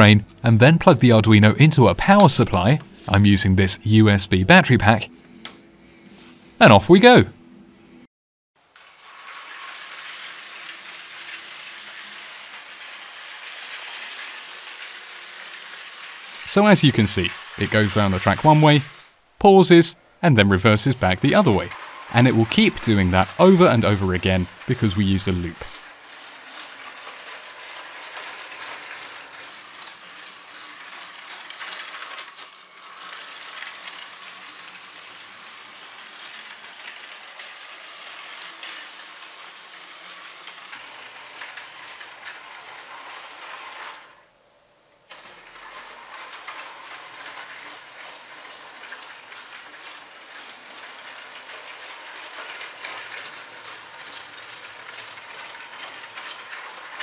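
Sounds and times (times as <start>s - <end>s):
toy train electric motor: 8.6s - 19.2s, 20.7s - 57.0s.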